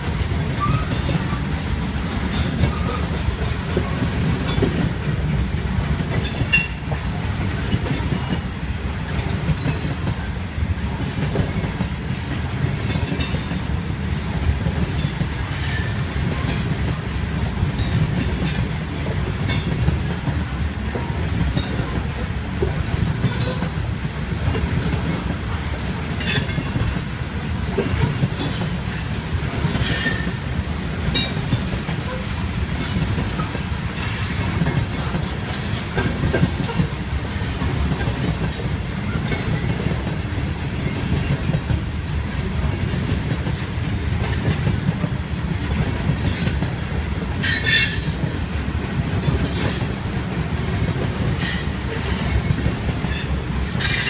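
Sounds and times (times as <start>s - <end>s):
train cars rumbling past: 0.0s - 54.0s.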